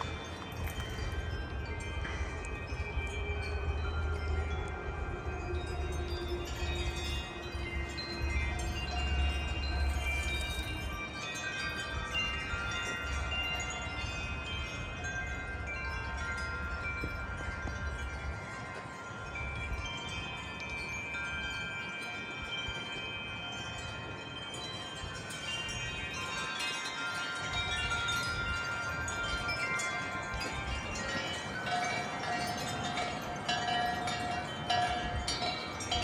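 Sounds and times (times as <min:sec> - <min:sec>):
low wind rumble: 0:00.0 - 0:36.0
wind chimes ringing: 0:00.0 - 0:36.0.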